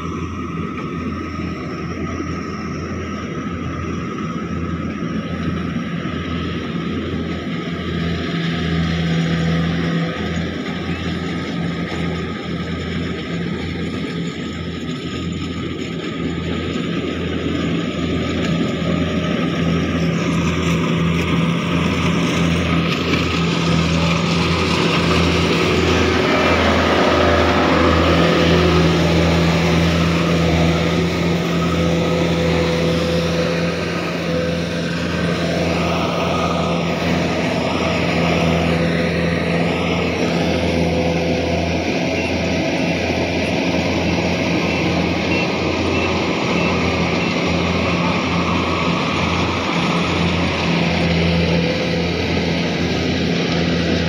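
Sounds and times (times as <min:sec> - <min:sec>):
harvester engine droning: 0:00.0 - 0:54.0.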